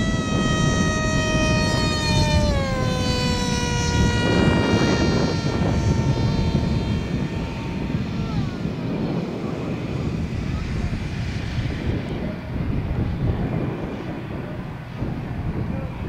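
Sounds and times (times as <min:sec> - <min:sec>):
electric motor and propeller whining: 0:00.0 - 0:16.0
wind rumble on microphone: 0:00.0 - 0:16.0.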